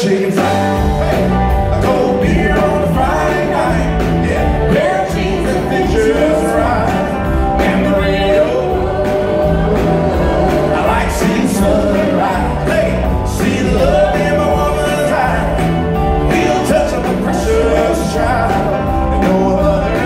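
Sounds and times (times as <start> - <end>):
bass guitar: 0.0 - 20.0
drums: 0.0 - 20.0
guitar: 0.0 - 20.0
person singing: 0.0 - 20.0
horn section playing: 0.5 - 20.0.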